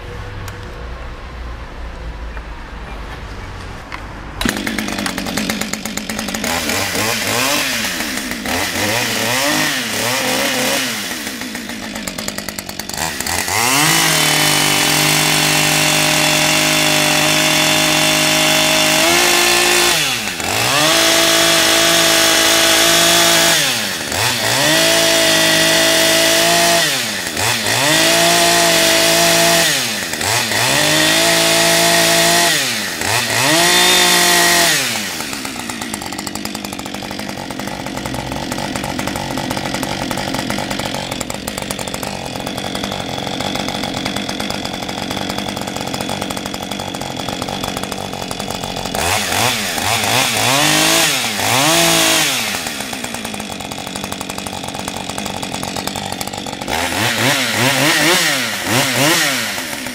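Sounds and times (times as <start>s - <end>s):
chainsaw revving and idling: 4.4s - 59.9s.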